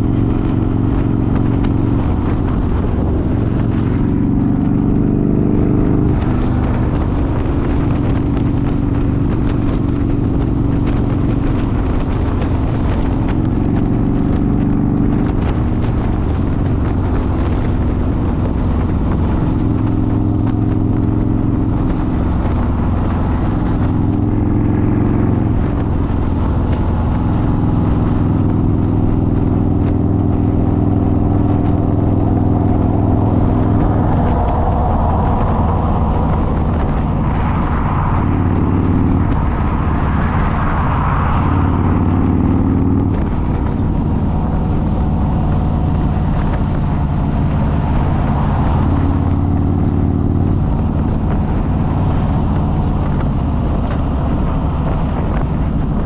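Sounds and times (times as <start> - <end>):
motorcycle engine running: 0.0 - 56.0
rushing noise: 0.0 - 56.0.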